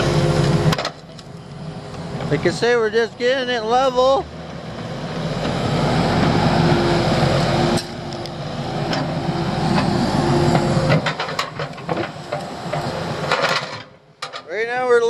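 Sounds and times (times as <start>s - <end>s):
diesel machinery running: 0.0s - 14.4s.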